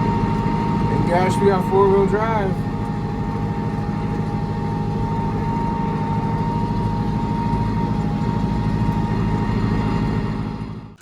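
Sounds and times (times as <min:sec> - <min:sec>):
thin steady whine: 0:00.0 - 0:11.0
tractor engine under load: 0:00.0 - 0:11.0.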